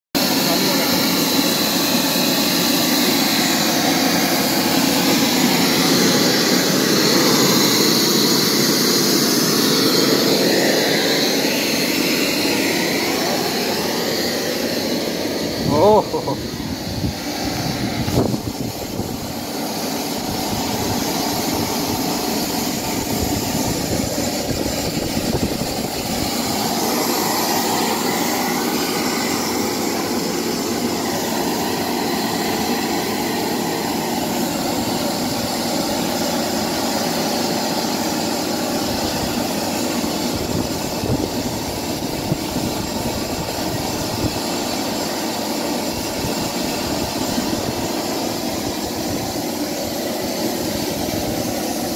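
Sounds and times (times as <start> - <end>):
model turbojet engine whine: 0.1 - 51.9.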